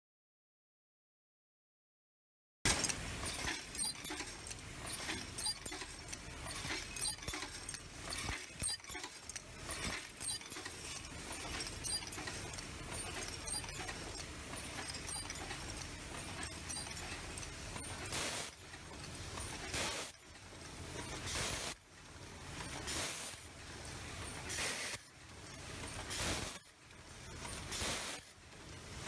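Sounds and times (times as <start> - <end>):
machine clicking and clattering: 2.7 - 29.0.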